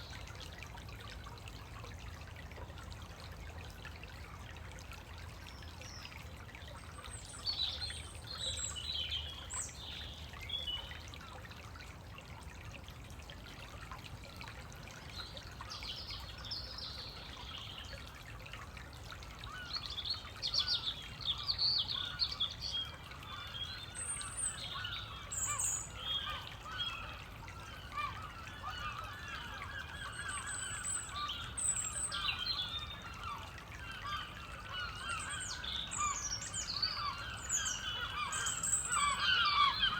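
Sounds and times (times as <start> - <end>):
woodland stream trickling: 0.0 - 39.9.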